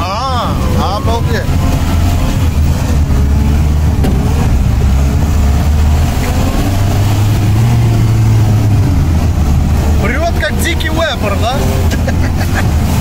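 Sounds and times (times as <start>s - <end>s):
engine running with low drone: 0.0s - 13.0s.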